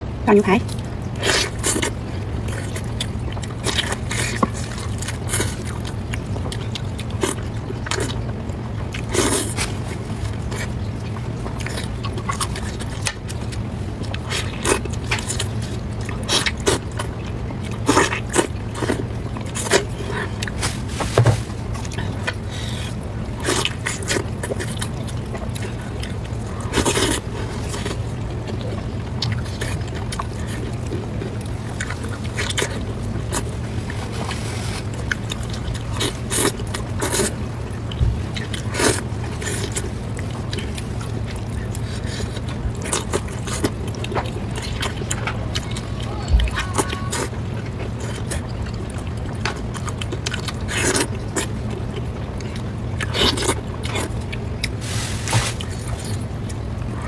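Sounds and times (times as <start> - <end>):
steady low hum: 0.0 - 57.0
chewing with wet clicks: 0.5 - 20.6, 21.6 - 54.8, 55.6 - 57.0.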